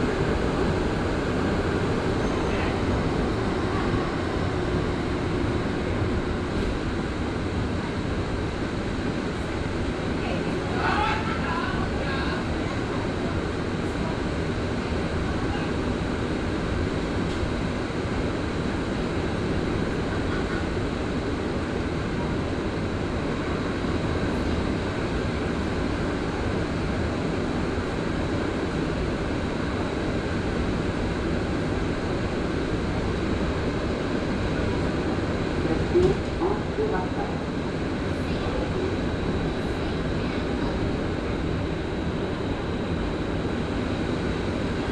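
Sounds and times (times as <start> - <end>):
train rumbling in tunnel: 0.0 - 44.9.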